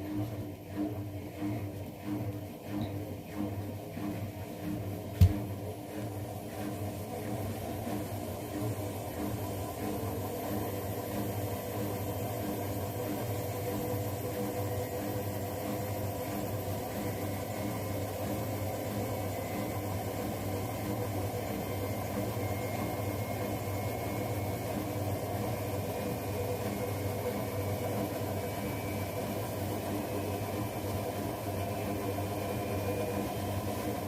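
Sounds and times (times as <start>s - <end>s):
washing machines humming: 0.0s - 34.0s.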